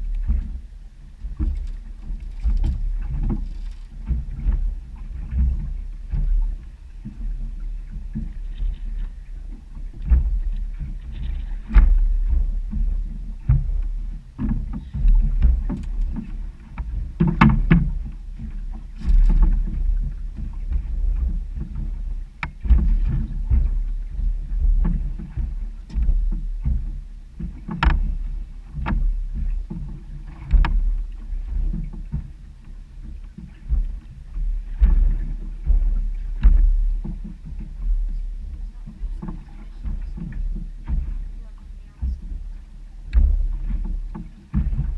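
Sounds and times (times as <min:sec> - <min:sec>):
waves slapping boat hull: 0:00.0 - 0:44.9.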